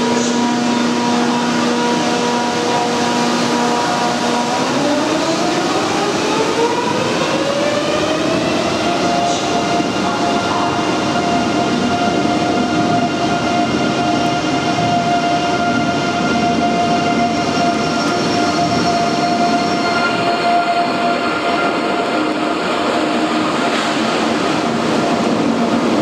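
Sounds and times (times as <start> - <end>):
electric train whine: 0.0 - 26.0
train rumble: 0.0 - 26.0.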